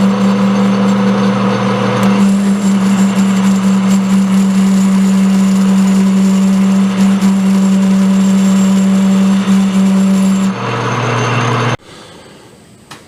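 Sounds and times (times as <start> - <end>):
metal lathe humming: 0.0 - 11.8.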